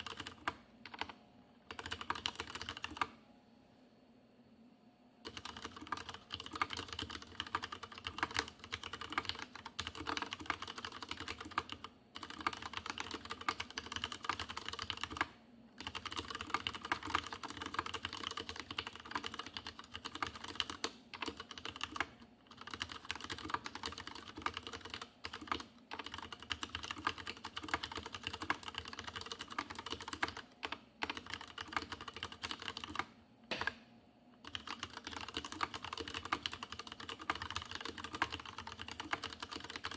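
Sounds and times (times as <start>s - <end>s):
mechanical keyboard typing: 0.0s - 3.2s, 5.2s - 33.8s, 34.4s - 39.9s.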